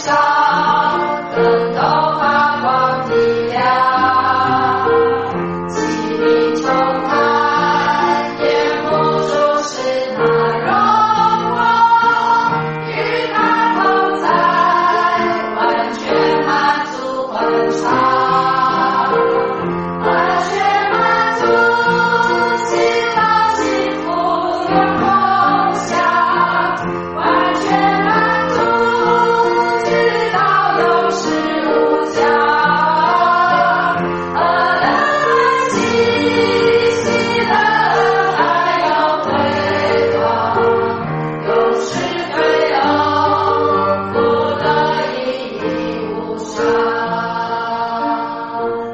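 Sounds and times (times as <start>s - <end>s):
sustained accompaniment: 0.0s - 48.6s
choir singing: 0.0s - 48.9s.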